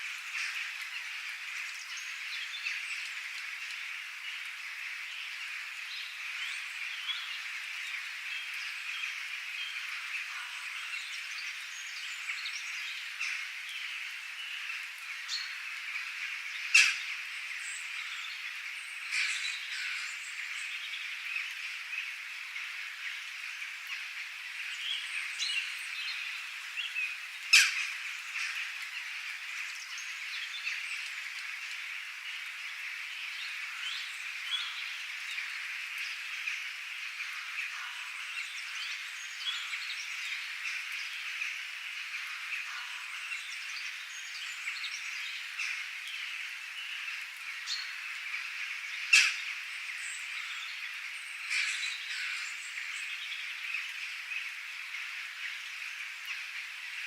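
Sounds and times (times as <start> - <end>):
frogs chirping: 0.0 - 57.0
birds chirping: 0.1 - 57.0.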